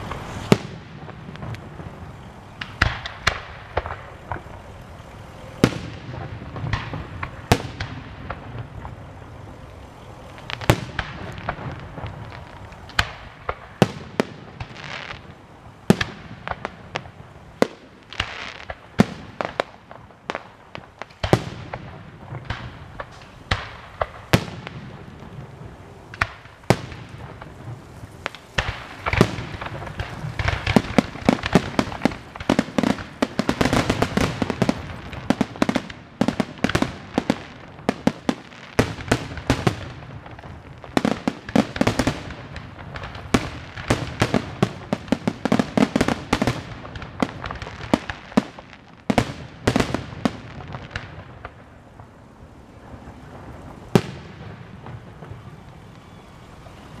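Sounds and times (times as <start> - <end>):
fireworks bursting in sharp bangs: 0.0 - 57.0
fireworks crackling: 0.0 - 57.0.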